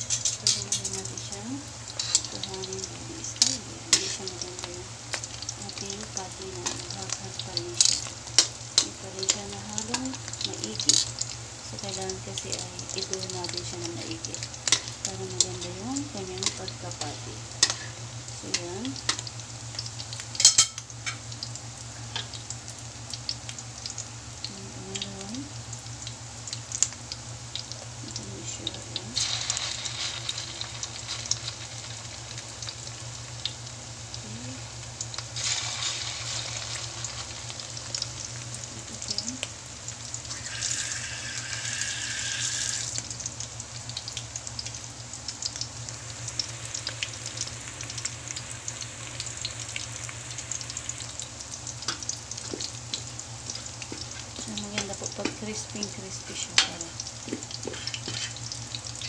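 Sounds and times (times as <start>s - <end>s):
batter deep-frying in oil: 0.0s - 59.0s.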